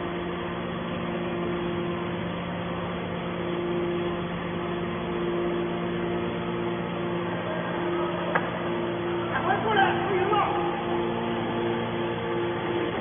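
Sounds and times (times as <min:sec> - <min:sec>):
hydraulic baler humming: 0:00.0 - 0:13.0.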